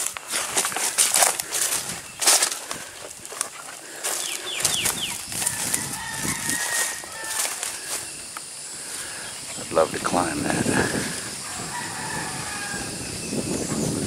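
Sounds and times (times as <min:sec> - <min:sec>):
birds chirping: 0:00.0 - 0:14.0
footsteps crunching through leaves: 0:00.0 - 0:14.0.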